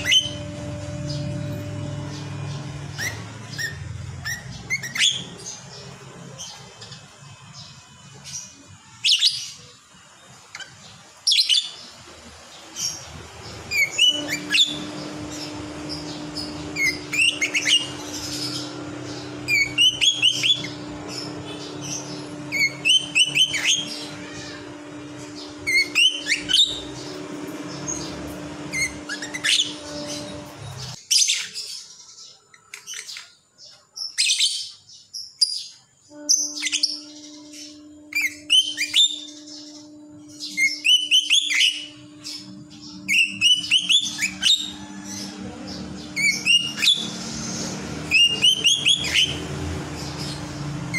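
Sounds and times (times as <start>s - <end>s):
bird twittering: 0.0s - 7.7s, 12.8s - 33.4s, 36.2s - 50.9s
steady low hum: 0.0s - 8.7s, 11.8s - 31.0s, 36.1s - 50.9s.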